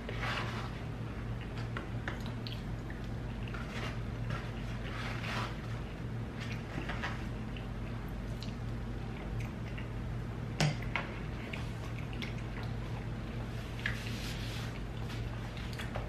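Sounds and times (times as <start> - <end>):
steady low hum: 0.0 - 16.0
wet chewing and mouth sounds: 0.8 - 4.9, 5.5 - 10.1, 10.8 - 16.0.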